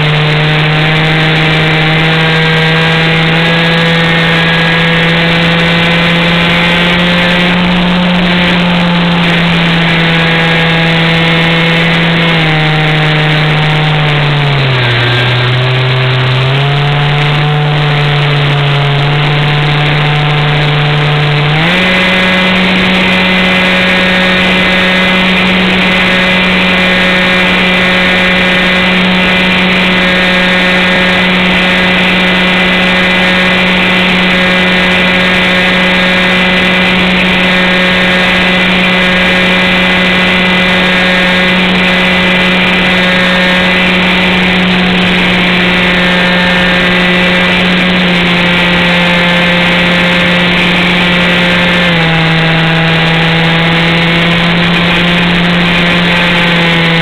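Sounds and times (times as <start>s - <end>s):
model airplane motor and propeller: 0.0s - 57.0s.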